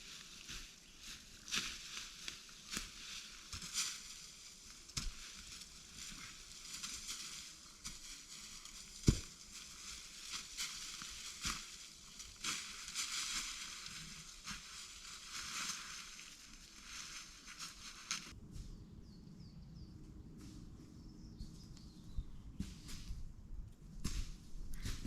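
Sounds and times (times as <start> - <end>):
crunching of dry forest material: 0.0 - 18.9, 20.0 - 25.0.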